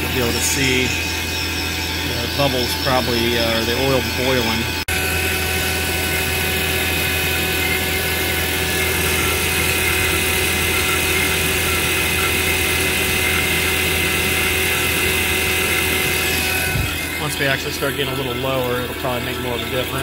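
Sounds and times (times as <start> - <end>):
vacuum pump droning: 0.0 - 20.0.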